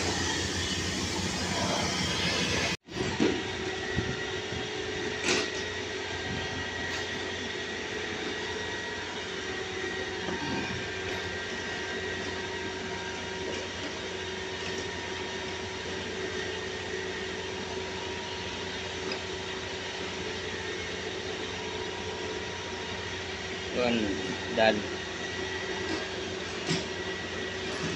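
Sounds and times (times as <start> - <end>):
machinery drone with whine: 0.0 - 27.9.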